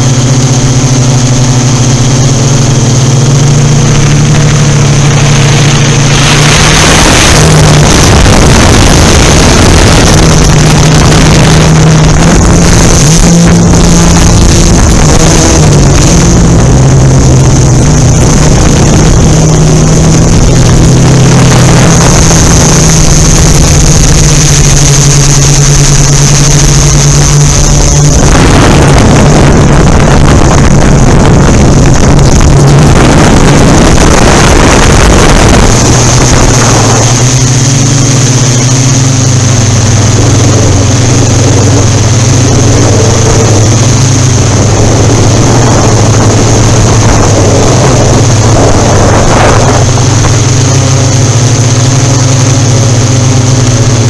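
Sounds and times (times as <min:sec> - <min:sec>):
drone propellers buzzing: 0:00.0 - 0:54.0
wind noise on microphone: 0:00.0 - 0:54.0.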